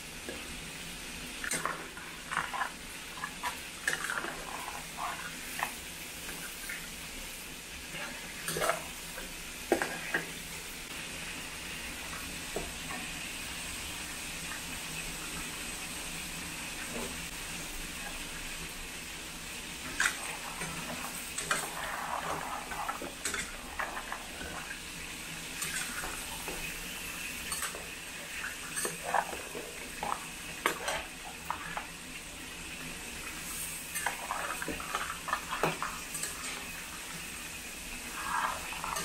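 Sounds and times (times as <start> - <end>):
sauce sizzling: 0.0 - 39.0.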